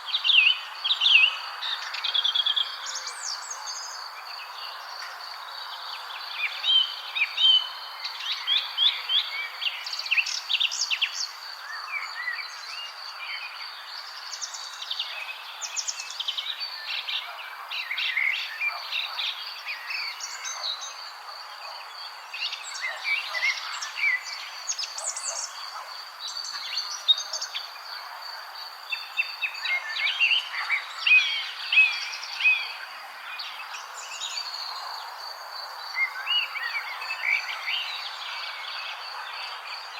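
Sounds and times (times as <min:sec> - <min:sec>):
soft outdoor hiss: 0:00.0 - 0:39.9
songbirds chirping: 0:00.0 - 0:39.9.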